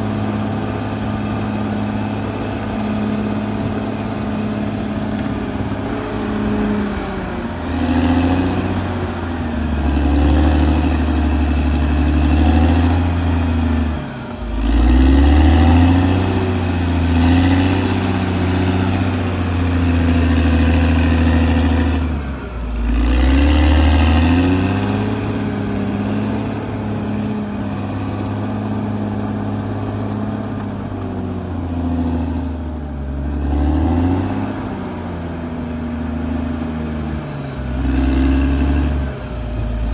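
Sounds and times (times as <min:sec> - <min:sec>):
bulldozer diesel engine running hard: 0:00.0 - 0:39.9.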